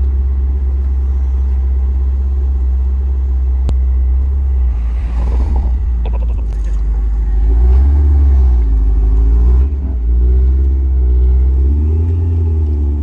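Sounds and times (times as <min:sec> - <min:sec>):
car accelerating: 0:00.0 - 0:13.0.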